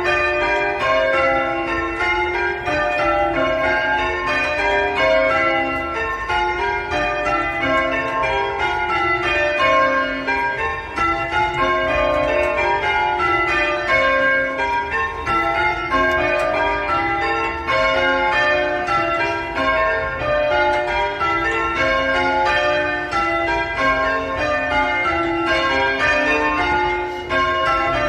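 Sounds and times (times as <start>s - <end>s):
church bells ringing: 0.0s - 28.0s.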